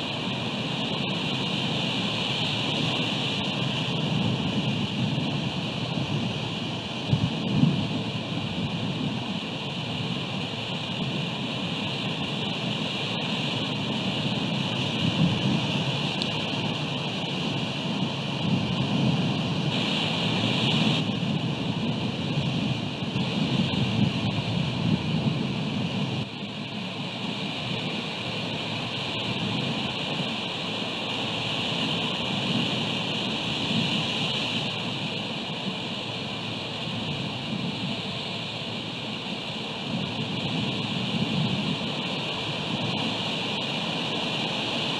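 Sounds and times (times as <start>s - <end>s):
rain hiss: 0.0s - 44.9s
wind buffeting microphone: 0.0s - 44.9s.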